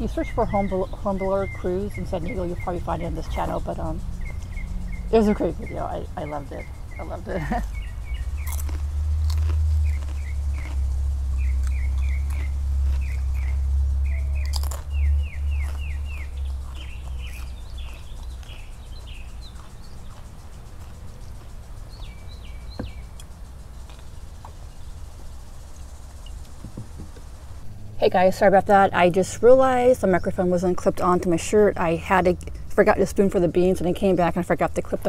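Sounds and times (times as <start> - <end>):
low steady rumble: 0.0 - 35.0
small birds chirping: 0.0 - 35.0.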